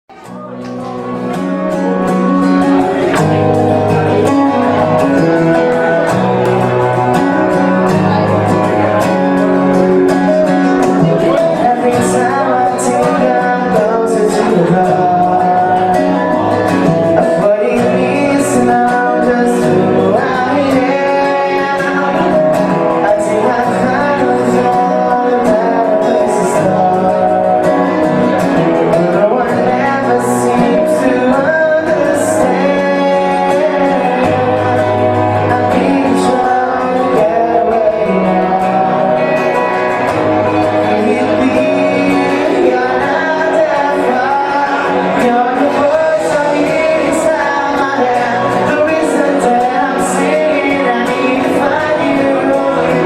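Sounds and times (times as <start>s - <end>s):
man singing: 0.1s - 53.0s
strummed guitar: 0.1s - 53.0s.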